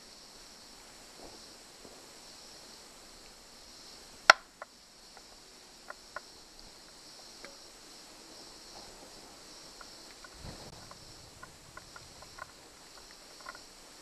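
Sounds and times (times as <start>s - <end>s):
insect chirring: 0.0s - 14.0s.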